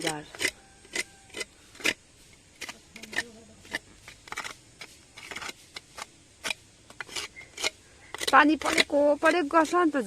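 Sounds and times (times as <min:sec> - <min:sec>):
hand tool scraping soil and gravel: 0:00.0 - 0:10.0.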